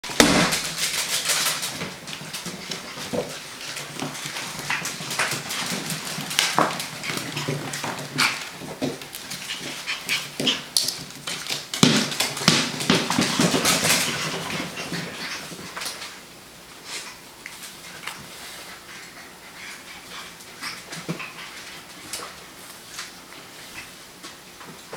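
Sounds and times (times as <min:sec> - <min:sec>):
puppy paws pattering: 0:00.2 - 0:24.9.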